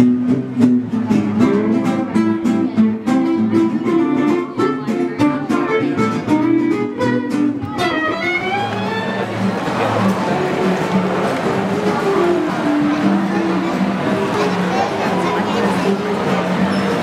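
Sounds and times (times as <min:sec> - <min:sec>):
acoustic guitar: 0:00.0 - 0:17.0
violin: 0:00.0 - 0:17.0.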